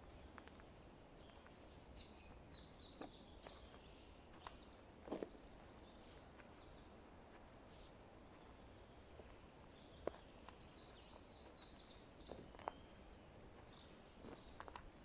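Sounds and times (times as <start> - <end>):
faint forest background: 0.0 - 15.0
songbird singing: 1.1 - 15.0.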